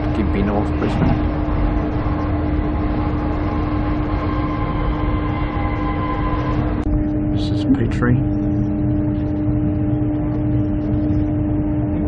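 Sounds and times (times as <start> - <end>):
constant low hum: 0.0 - 12.0
train carriage rumble: 0.0 - 12.0.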